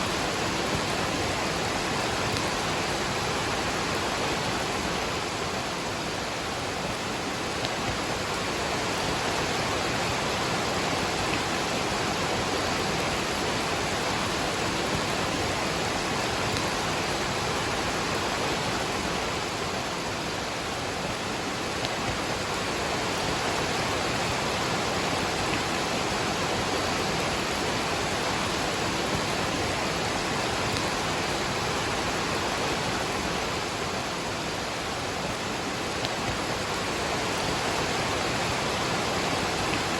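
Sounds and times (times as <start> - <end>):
rain: 0.0 - 39.9
waterfall rushing: 0.0 - 39.9.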